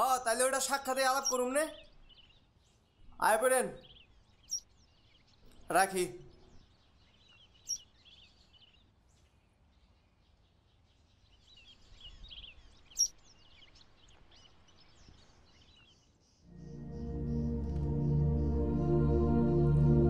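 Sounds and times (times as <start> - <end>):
small birds chirping: 0.0 - 18.5
faint outdoor background noise: 0.0 - 20.0.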